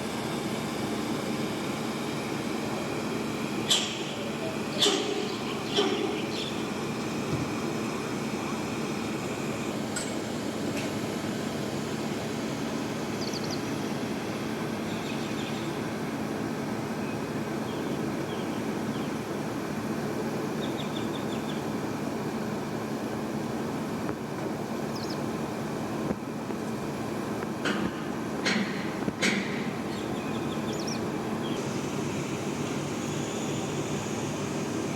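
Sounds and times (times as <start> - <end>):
crane engine droning: 0.0 - 34.9.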